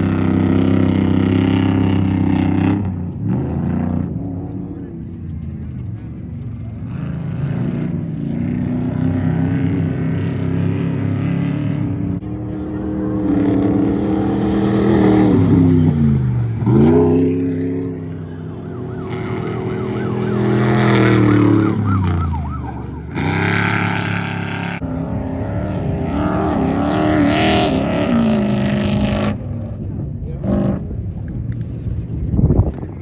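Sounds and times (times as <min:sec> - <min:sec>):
truck engines revving past: 0:00.0 - 0:33.0.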